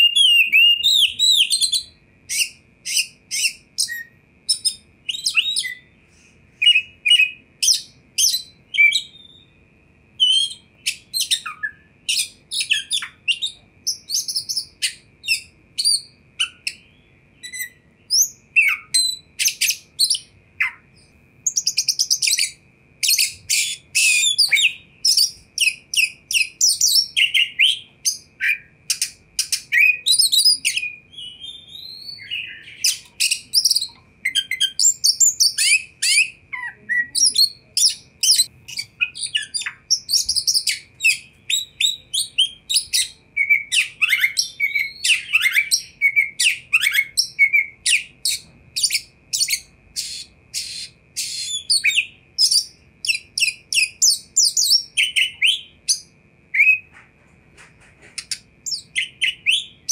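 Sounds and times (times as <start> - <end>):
bird singing whistles and chatter: 0.0 - 9.6, 10.2 - 56.9, 58.2 - 59.9.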